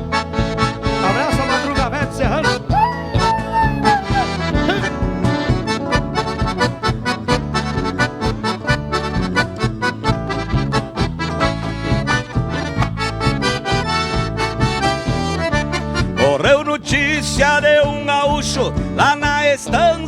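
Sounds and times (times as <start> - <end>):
steady rhythmic beat: 0.0 - 18.2
accordion: 0.0 - 20.0
live band playing: 0.0 - 20.0.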